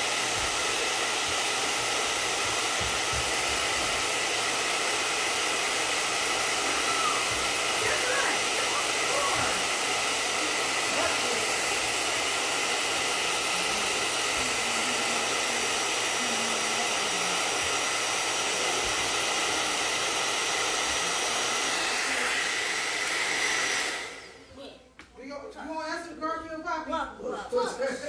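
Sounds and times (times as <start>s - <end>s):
hair dryer blowing air: 0.0s - 24.5s
hair dryer motor whine: 0.0s - 24.5s.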